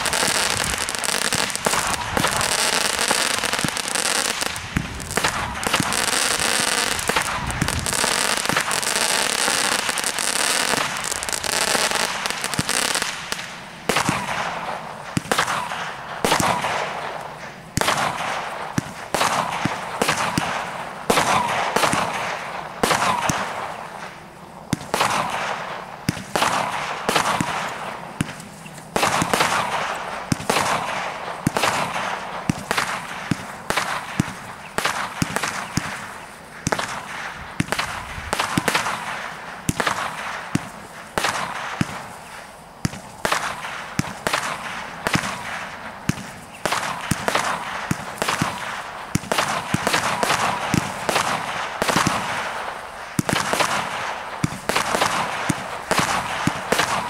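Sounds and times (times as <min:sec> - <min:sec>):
firework barrage shots and bursts: 0:00.0 - 0:57.0.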